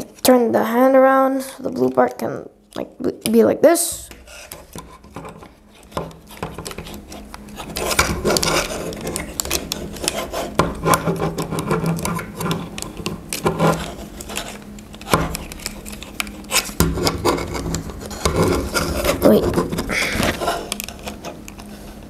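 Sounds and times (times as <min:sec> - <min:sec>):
plastic toy rubbing and scraping: 0:03.9 - 0:22.0.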